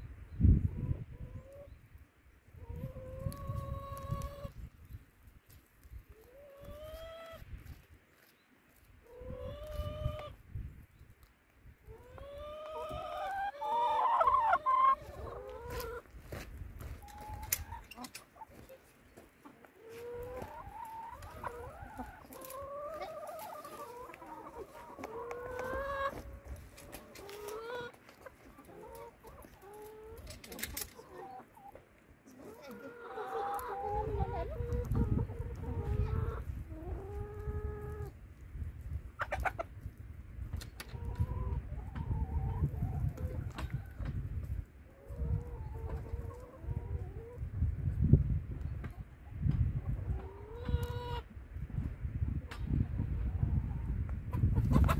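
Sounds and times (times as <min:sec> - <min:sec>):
hens clucking: 0:00.6 - 0:01.8, 0:02.6 - 0:04.7, 0:05.6 - 0:08.3, 0:09.0 - 0:10.4, 0:11.8 - 0:51.4, 0:52.3 - 0:54.9.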